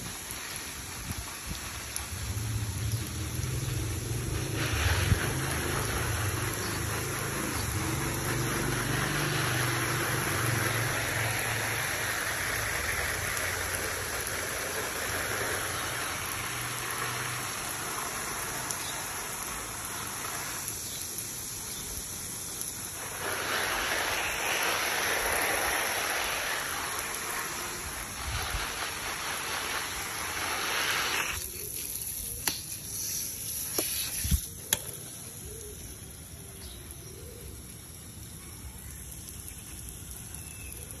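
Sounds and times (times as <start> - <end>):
hose spray hissing on plants: 0.0 - 41.0.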